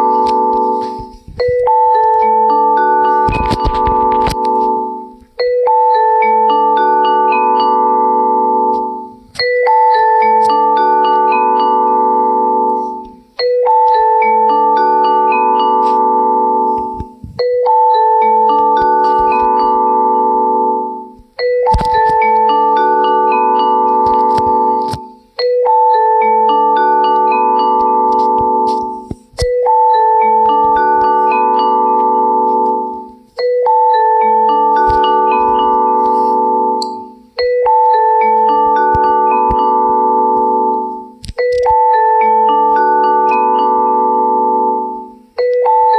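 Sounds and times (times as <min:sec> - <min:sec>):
phone ringtone melody: 0:00.0 - 0:45.9.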